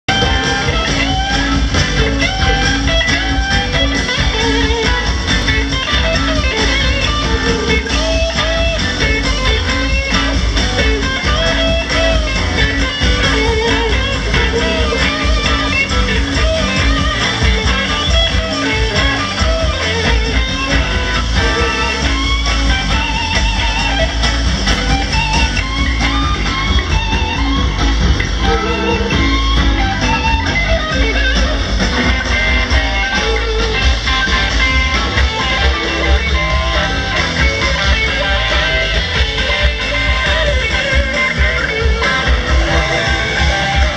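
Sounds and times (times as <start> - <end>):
electric guitar lead: 0.0 - 43.9
live rock band: 0.0 - 43.9.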